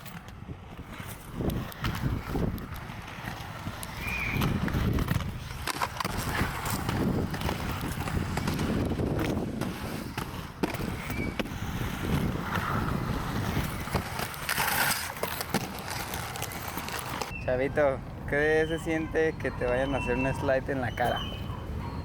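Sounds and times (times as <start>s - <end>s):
skate wheels rolling on pavement: 0.0s - 22.0s.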